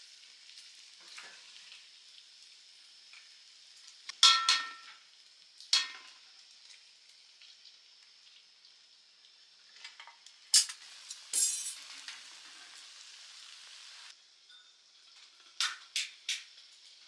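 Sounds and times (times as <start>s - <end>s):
egg sizzling in a pan: 0.0s - 17.0s.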